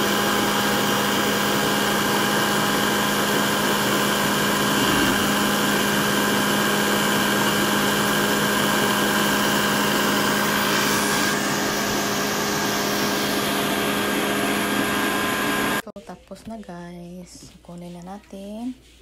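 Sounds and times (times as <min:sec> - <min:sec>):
blender motor humming: 0:00.0 - 0:15.8.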